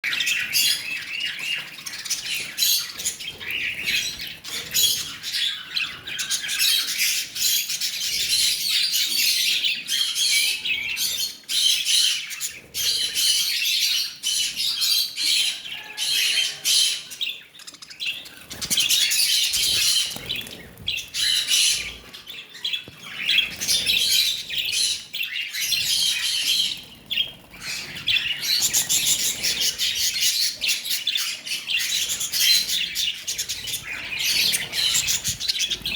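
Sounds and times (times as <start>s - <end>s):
lovebirds chirping and squawking: 0.0s - 35.9s.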